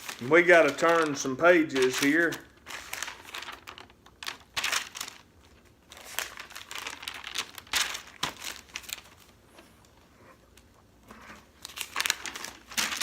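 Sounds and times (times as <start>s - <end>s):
paper pages turning: 0.0s - 13.0s.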